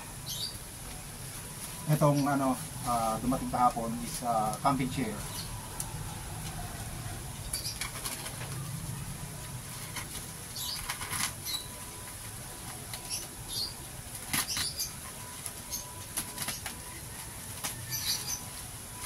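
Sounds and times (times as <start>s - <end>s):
plastic bag and bubble wrap rustling: 0.8s - 19.0s.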